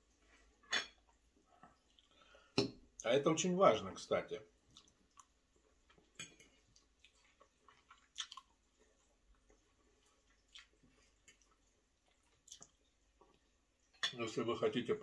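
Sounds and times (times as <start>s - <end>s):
man chewing food: 0.0s - 3.0s, 4.5s - 14.0s.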